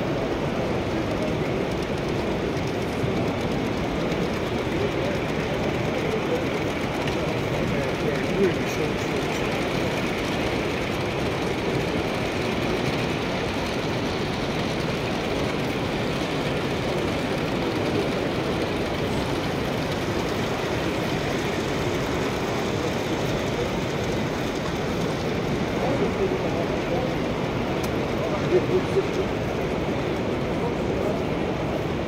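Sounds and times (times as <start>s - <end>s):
train interior rumble: 0.0s - 32.0s.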